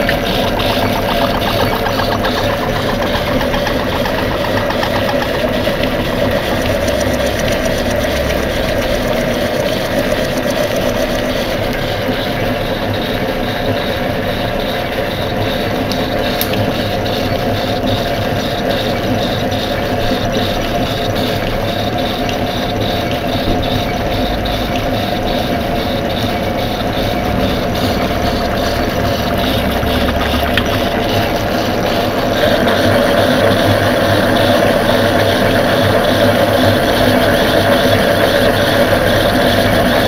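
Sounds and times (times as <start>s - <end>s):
faint regular ticking: 0.0s - 12.3s, 13.8s - 40.0s
lathe whirring: 0.0s - 40.0s.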